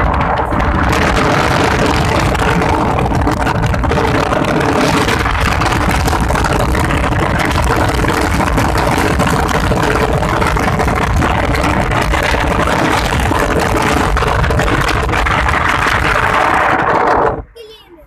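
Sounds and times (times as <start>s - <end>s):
heavy low rumble: 0.0s - 18.0s
vehicle engine humming: 0.0s - 18.0s.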